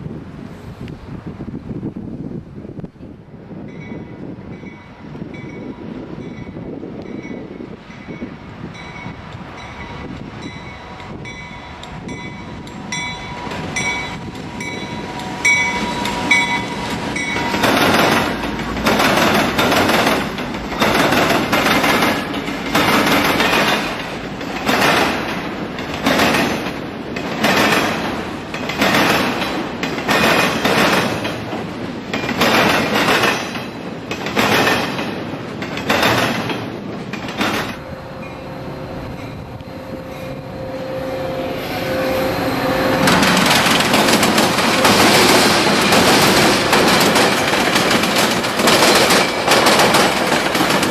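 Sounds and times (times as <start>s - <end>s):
freight train rumble: 0.0s - 50.9s
train wheels clattering over track: 3.7s - 38.4s, 42.7s - 50.9s.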